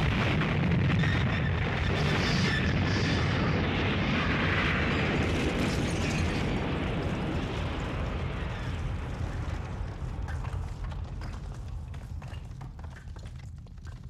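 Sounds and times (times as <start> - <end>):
explosion with crackling sparks: 0.0 - 14.0.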